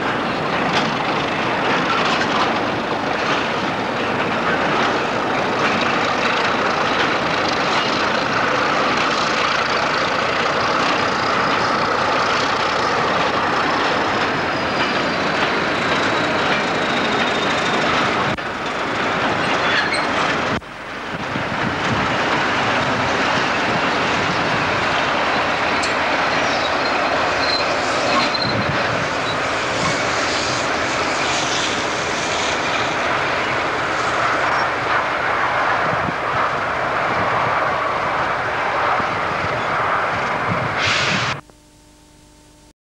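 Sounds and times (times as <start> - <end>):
diesel locomotive engines running: 0.0 - 41.5.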